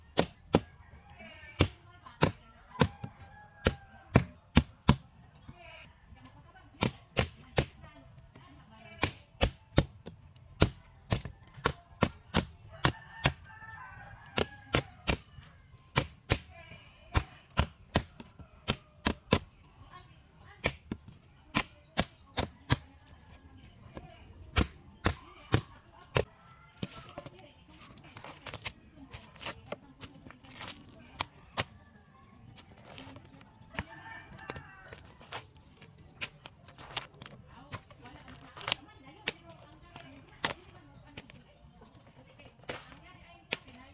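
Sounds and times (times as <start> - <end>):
blade chopping gourd skin: 0.0 - 0.9, 1.5 - 5.1, 6.6 - 19.7, 20.6 - 23.2, 23.9 - 31.8, 32.5 - 41.4.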